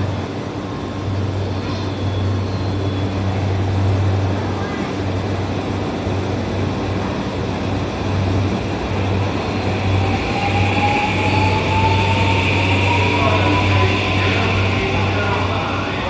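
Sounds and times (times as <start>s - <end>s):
electric train whine: 0.0s - 16.0s.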